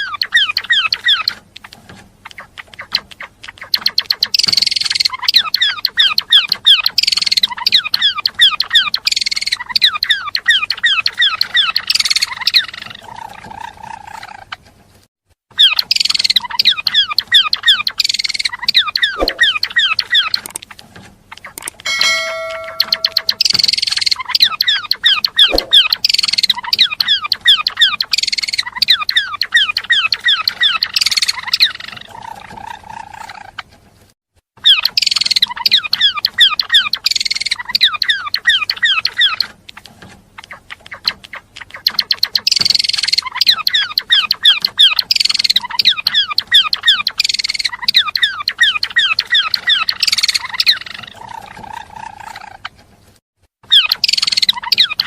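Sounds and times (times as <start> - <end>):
songbird chirping and trilling: 0.0 - 14.6, 15.5 - 33.8, 34.6 - 52.8, 53.6 - 55.0.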